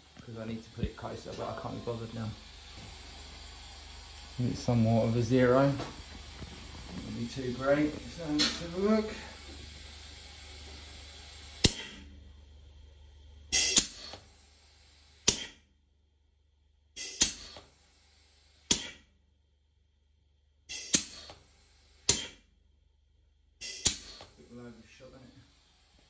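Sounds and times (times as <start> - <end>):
pneumatic air hiss: 0.0 - 12.2, 13.4 - 15.7, 16.9 - 19.2, 20.6 - 22.6, 23.6 - 26.0.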